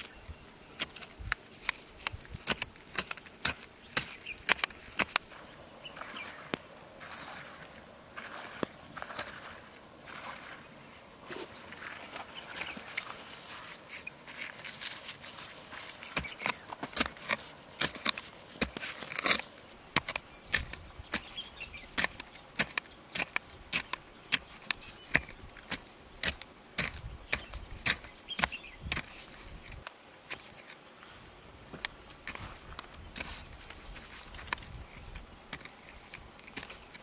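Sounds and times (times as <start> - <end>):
hand tool digging stony soil: 0.0 - 30.8, 31.8 - 37.0.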